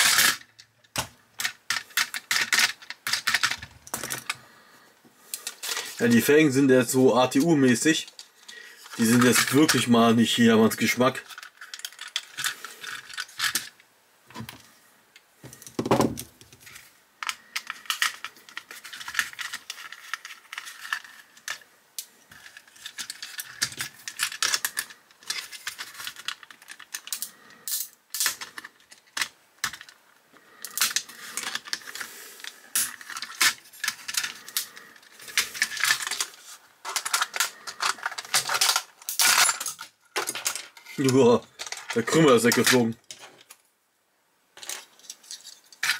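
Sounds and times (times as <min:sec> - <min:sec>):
small parts clicking and clinking: 0:00.0 - 0:04.4, 0:05.3 - 0:06.4, 0:07.1 - 0:14.6, 0:15.2 - 0:43.6, 0:44.6 - 0:45.9.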